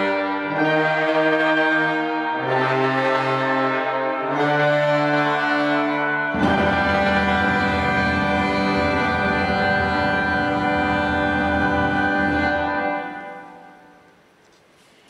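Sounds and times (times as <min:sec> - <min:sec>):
wind ensemble playing chords: 0:00.0 - 0:14.1.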